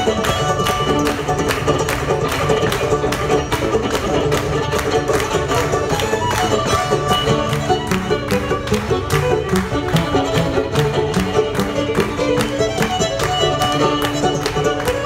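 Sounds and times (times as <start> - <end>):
banjo plucked notes: 0.0 - 15.0
bowed fiddle melody: 0.0 - 15.0.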